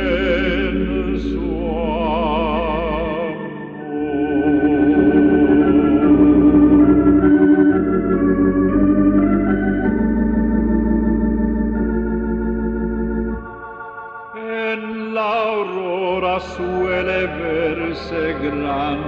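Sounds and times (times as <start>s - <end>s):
organ playing slow chords: 0.0s - 19.0s.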